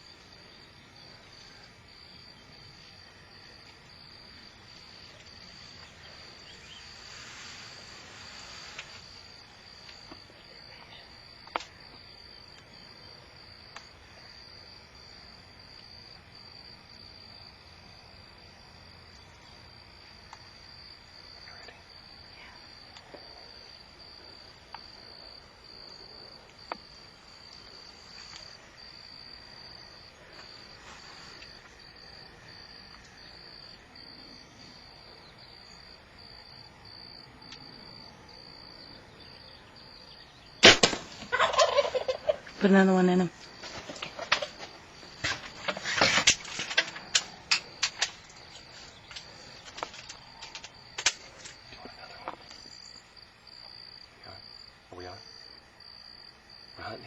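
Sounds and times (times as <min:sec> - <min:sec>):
crickets chirring: 0:00.0 - 0:57.0.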